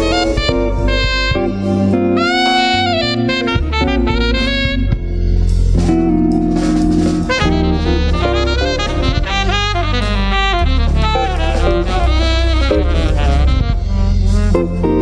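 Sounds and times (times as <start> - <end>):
alto saxophone solo: 0.0 - 15.0
drum kit with cymbals: 0.0 - 15.0
electric bass: 0.0 - 15.0.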